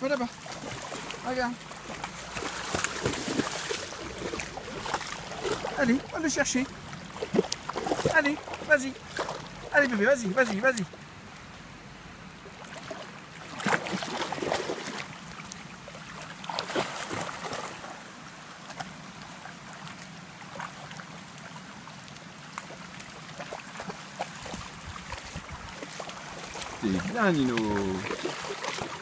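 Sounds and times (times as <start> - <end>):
dogs splashing in water: 0.0 - 11.2, 12.4 - 29.0
stream over stones: 0.0 - 29.0.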